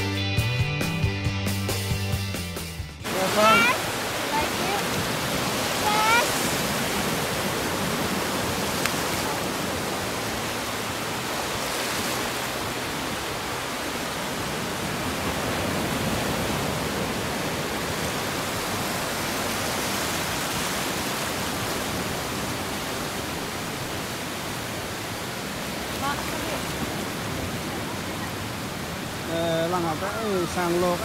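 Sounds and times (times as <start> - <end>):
ocean waves breaking: 3.0 - 31.0
waves washing over sand: 3.0 - 31.0.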